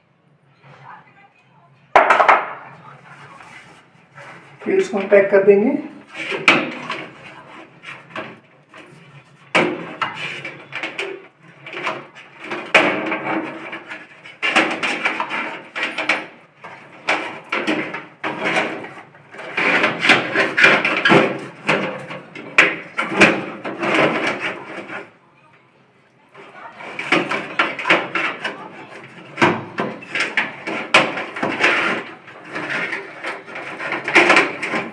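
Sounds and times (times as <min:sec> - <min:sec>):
cables rustling: 0:02.0 - 0:34.9.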